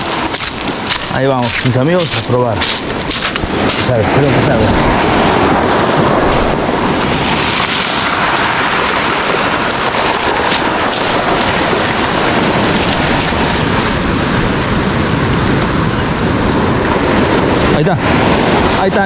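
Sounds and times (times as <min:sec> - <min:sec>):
ocean surf breaking: 0:00.0 - 0:19.0
wind on microphone: 0:00.0 - 0:19.0.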